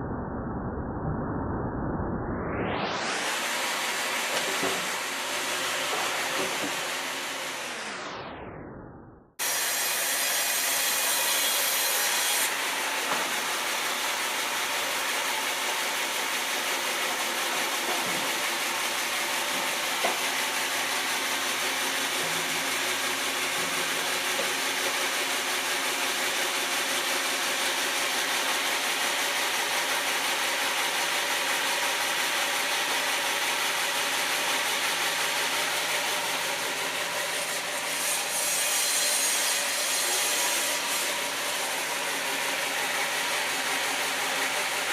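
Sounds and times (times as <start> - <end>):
saw cutting through log: 3.1 - 8.1, 9.4 - 44.9.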